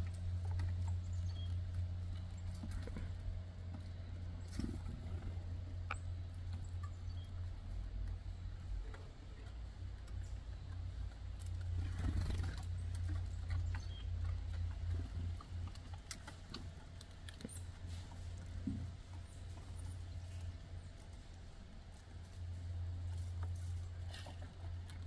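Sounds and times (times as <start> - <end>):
seeds clicking and crackling: 0.0 - 25.0
steady low rumble: 0.0 - 25.0.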